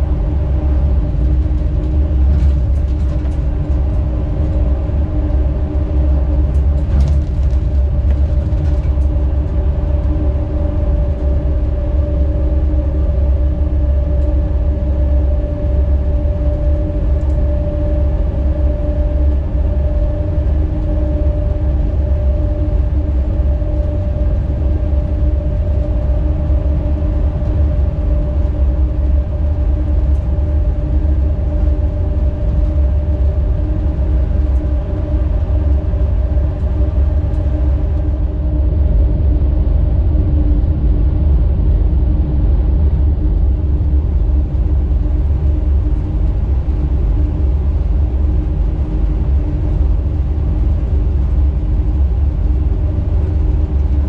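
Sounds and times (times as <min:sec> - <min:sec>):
electric locomotive rumble: 0:00.0 - 0:54.0.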